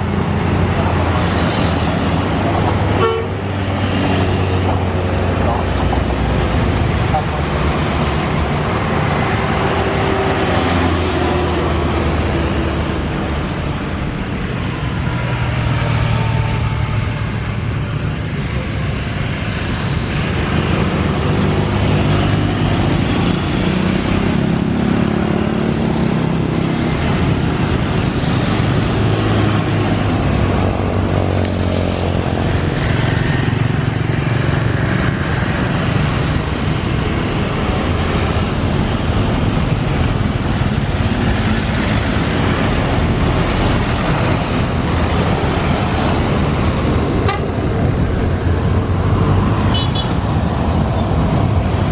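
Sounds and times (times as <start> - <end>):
vehicles passing: 0.0 - 51.9.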